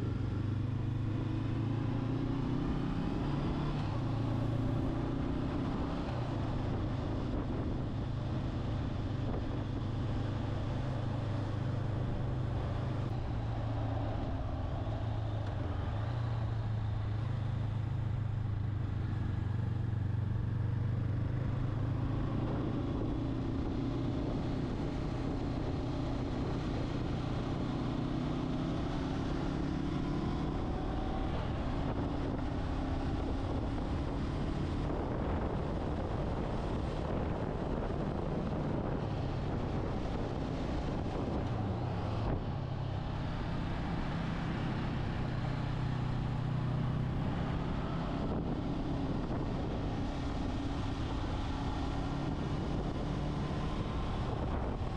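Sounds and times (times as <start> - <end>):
wind rushing over microphone: 0.0 - 17.8, 20.8 - 54.9.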